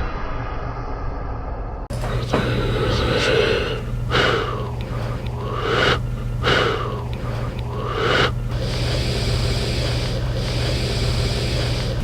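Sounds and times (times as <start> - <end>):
heavy noisy breathing: 1.9 - 12.0
steady low hum: 1.9 - 12.0.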